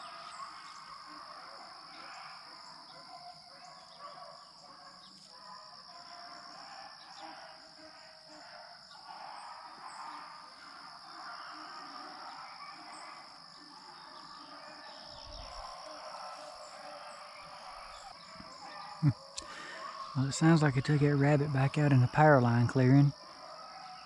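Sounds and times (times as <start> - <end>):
distant dogs baying: 0.0 - 24.0.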